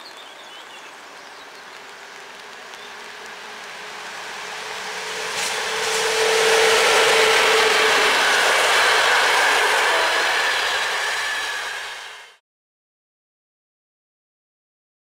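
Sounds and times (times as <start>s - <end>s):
electric locomotive whine: 0.0s - 12.4s
train wheels rushing on rail: 0.0s - 12.4s.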